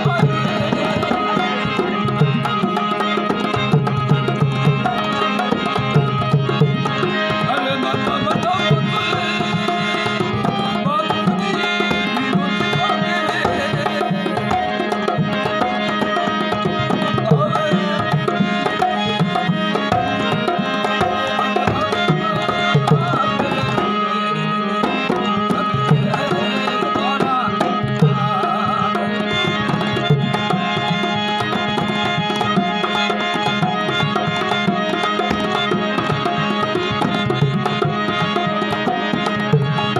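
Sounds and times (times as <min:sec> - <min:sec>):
hand drums rhythm: 0:00.0 - 0:24.0, 0:24.8 - 0:39.9.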